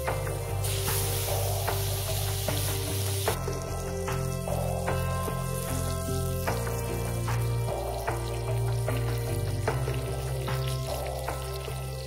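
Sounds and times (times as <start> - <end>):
burger patty sizzling: 0.0 - 12.0
music with low stepping notes: 0.0 - 12.0.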